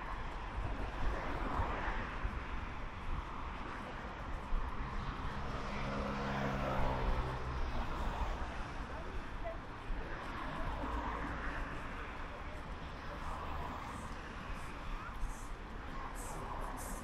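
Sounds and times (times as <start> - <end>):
low rumble of traffic: 0.0 - 17.0
wind: 0.0 - 17.0.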